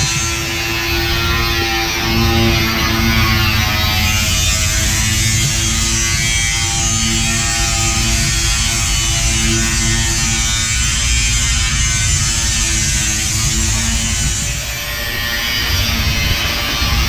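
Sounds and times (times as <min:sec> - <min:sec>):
angle grinder on steel: 0:00.0 - 0:17.0.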